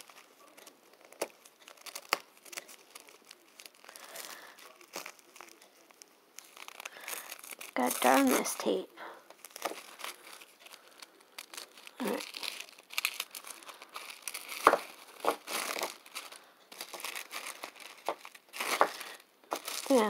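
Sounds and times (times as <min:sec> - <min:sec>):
tape tearing: 0:00.0 - 0:20.0
tissue paper crinkling: 0:00.0 - 0:20.0.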